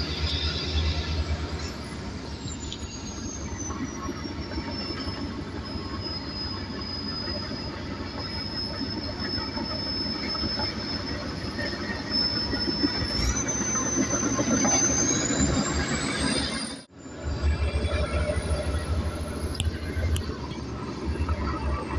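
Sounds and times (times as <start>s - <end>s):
crawler tracks squealing and clanking: 0.0s - 21.9s.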